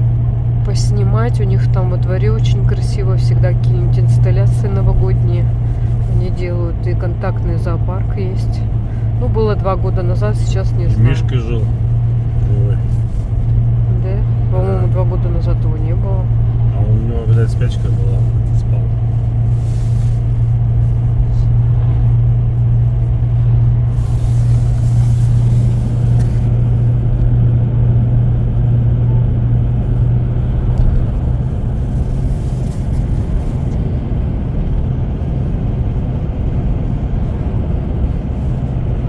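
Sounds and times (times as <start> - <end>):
car engine drone: 0.0 - 39.0
road noise: 0.0 - 39.0.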